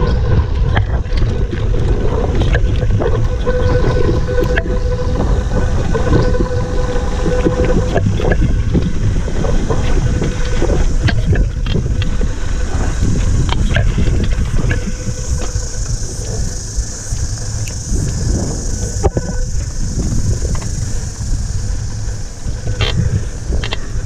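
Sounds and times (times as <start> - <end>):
bike clacks and rattles over bumps: 0.0 - 24.0
low tyre rumble: 0.0 - 24.0
wind buffeting microphone: 0.0 - 24.0.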